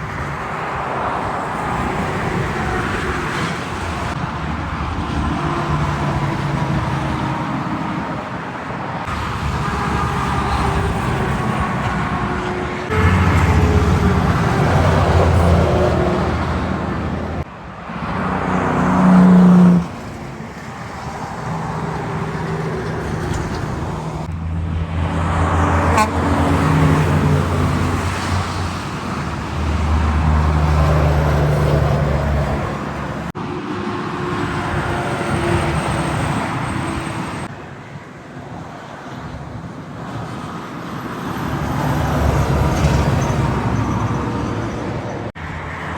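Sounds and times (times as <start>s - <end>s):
heavy trucks driving past: 0.0s - 45.9s.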